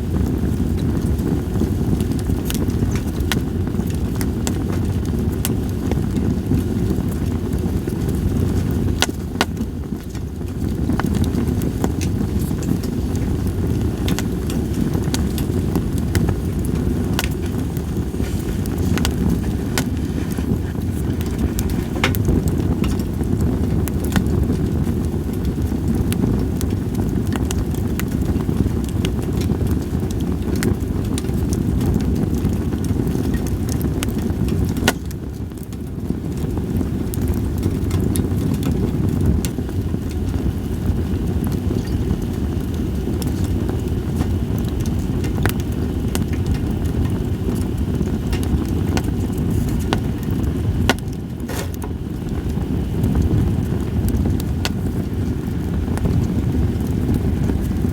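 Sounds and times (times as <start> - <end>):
campfire crackling and popping: 0.0 - 57.9
low rumble of fire: 0.0 - 57.9.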